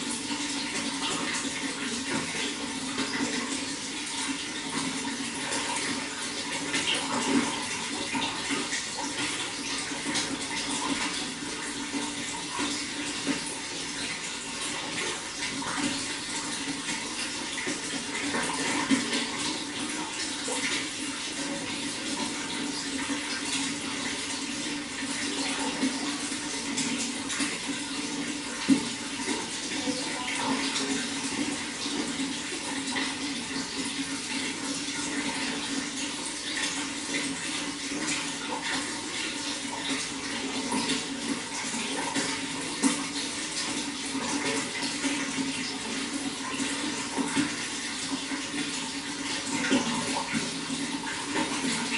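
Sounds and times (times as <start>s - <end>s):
running water splashing: 0.0s - 51.9s.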